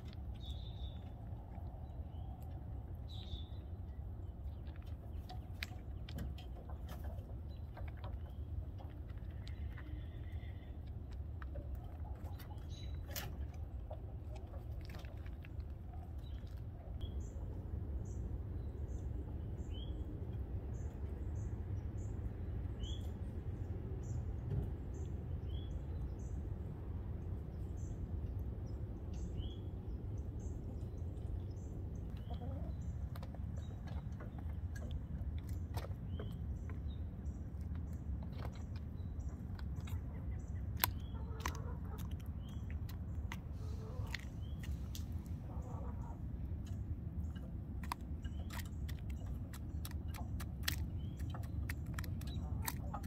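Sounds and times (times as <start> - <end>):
low background rumble: 0.0 - 53.0
small birds chirping: 0.0 - 53.0.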